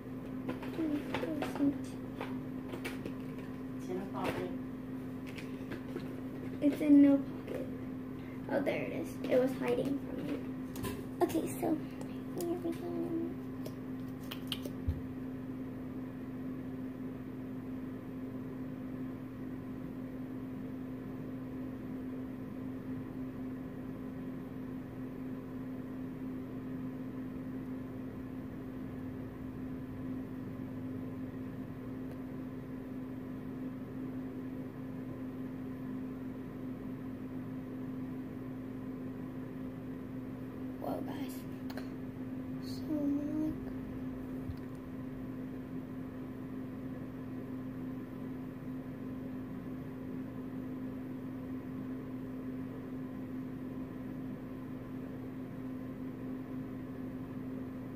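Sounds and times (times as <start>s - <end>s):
electrical hum: 0.0s - 57.9s.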